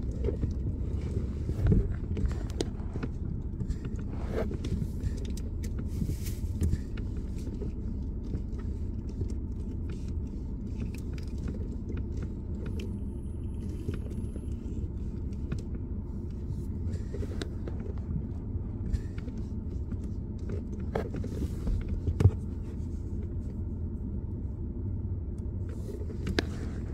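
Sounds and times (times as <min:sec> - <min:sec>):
car engine rumble in cabin: 0:00.0 - 0:26.9.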